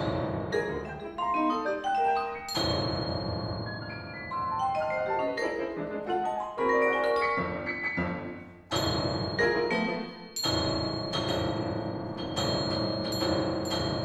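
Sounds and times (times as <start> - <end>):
grand piano: 0.0 - 14.0.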